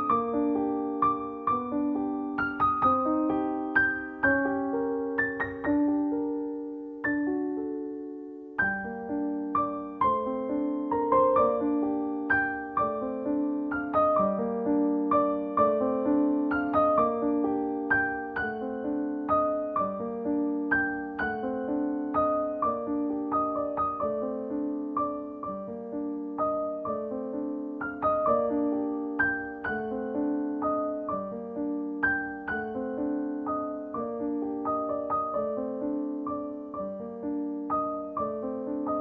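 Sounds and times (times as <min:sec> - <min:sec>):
piano playing: 0:00.0 - 0:39.0.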